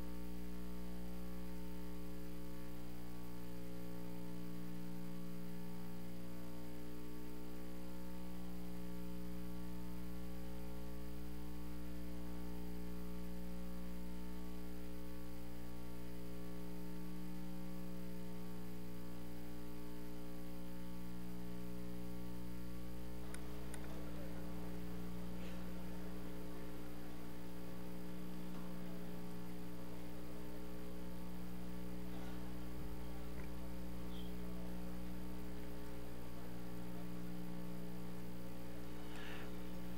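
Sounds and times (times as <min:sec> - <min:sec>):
electrical mains hum: 0:00.0 - 0:39.9
faint room noise: 0:00.0 - 0:39.9.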